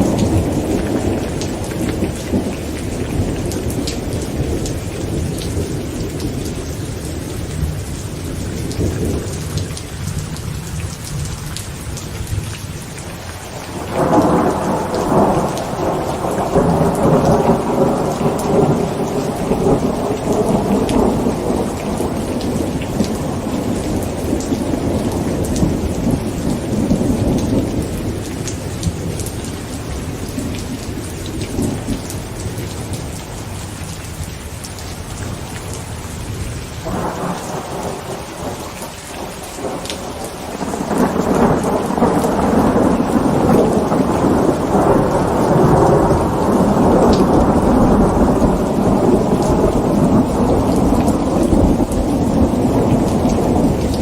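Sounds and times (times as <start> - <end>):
thunder rumbling: 0.0 - 12.4, 13.4 - 33.6, 36.2 - 54.0
heavy rain on a tent: 0.0 - 54.0.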